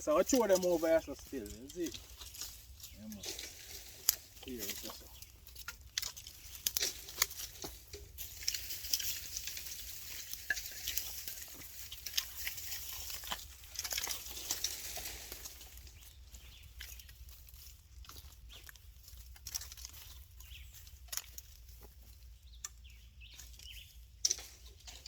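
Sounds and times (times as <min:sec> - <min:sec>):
plants and soil rustling: 0:00.0 - 0:25.0.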